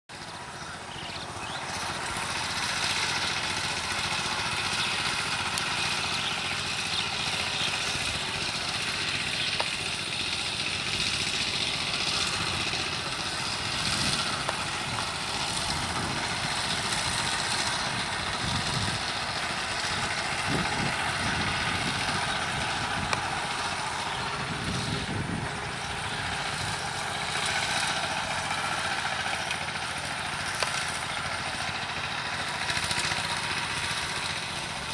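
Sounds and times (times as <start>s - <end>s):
diesel engine running under load: 0.1s - 34.9s
wheels churning through mud: 0.1s - 34.9s.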